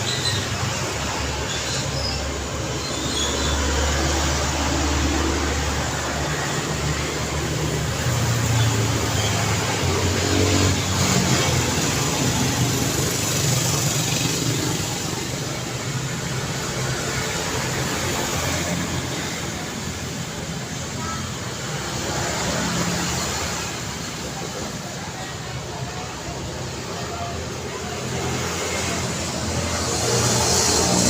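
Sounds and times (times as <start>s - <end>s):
road noise: 0.0s - 31.0s
vehicle engines passing: 0.0s - 31.0s.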